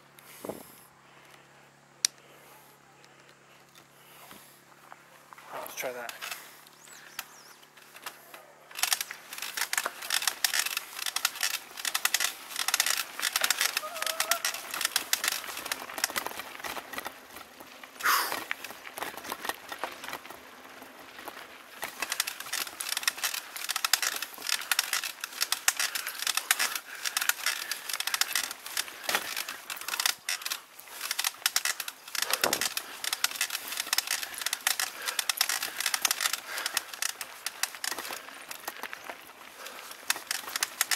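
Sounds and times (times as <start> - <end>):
mountain bike rattling on gravel: 5.0 - 40.9.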